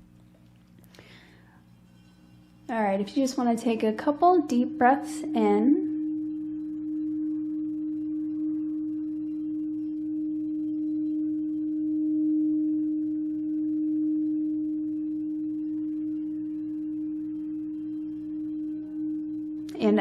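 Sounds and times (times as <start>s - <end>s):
singing bowl ringing: 0.9s - 20.0s.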